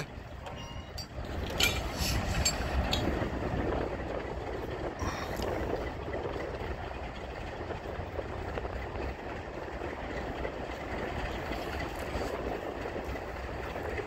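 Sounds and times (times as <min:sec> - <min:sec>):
freight train rumbling on rails: 0:00.0 - 0:14.0.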